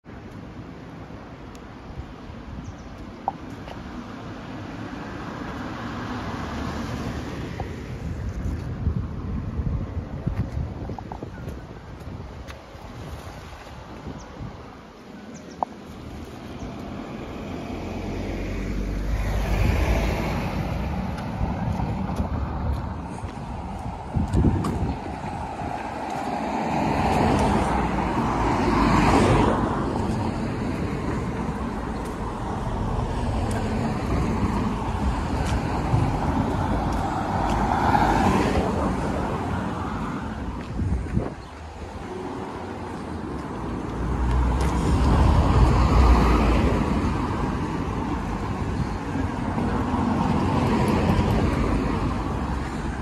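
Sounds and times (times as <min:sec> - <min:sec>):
cars passing close by: 0:00.0 - 0:53.0.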